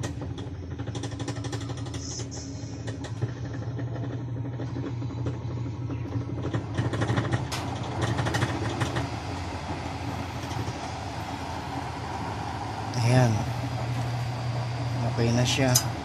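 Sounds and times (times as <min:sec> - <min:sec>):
blower fan humming: 0:00.0 - 0:16.0
burning oil crackling: 0:00.0 - 0:16.0.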